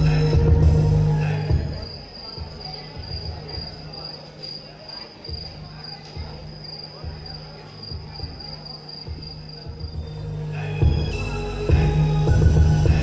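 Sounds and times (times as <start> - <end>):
pulsing cricket-like chirping: 0.0 - 13.0.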